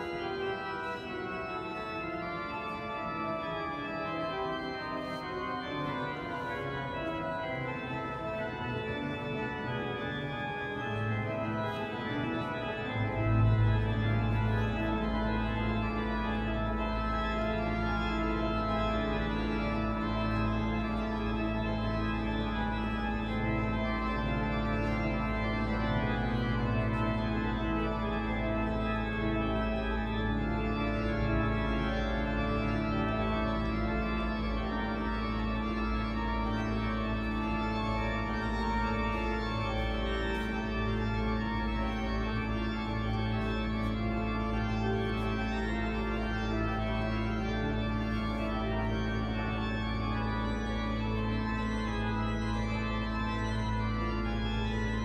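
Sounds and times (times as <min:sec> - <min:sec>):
pipe organ playing: 0:00.0 - 0:55.0.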